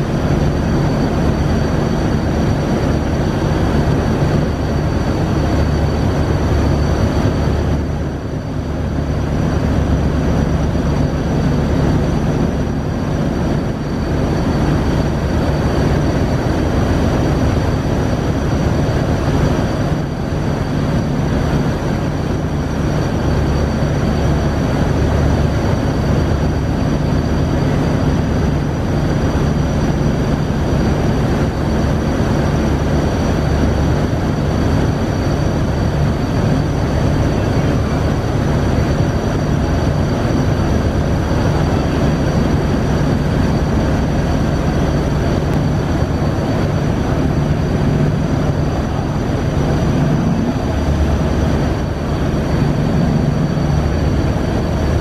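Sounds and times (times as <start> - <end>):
boat engines droning: 0.0 - 55.0
bow wave churning: 0.0 - 55.0
faint high whine: 0.0 - 55.0.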